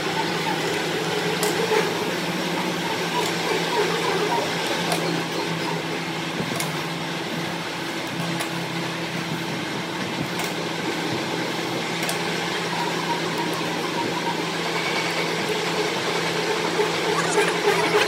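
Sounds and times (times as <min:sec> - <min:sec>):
machine humming and whirring: 0:00.0 - 0:18.0.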